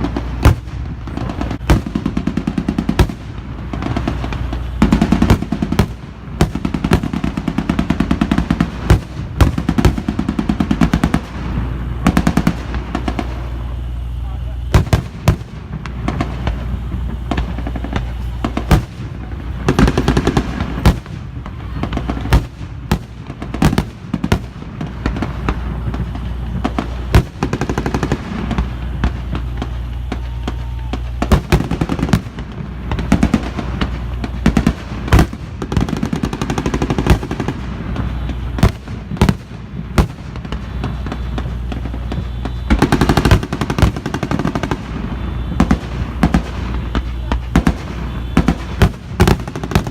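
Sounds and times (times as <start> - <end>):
anti-aircraft fire bangs: 0.0 - 49.9.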